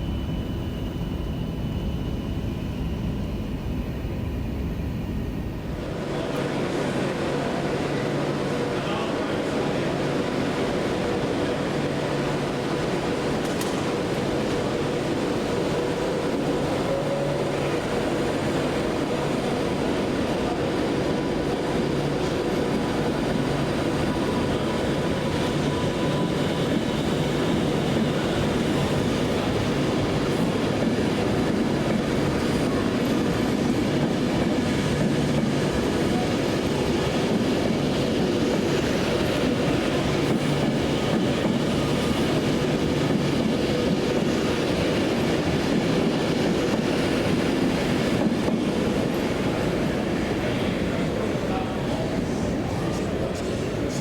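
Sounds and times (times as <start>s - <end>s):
train wheels on rails: 5.7s - 54.0s.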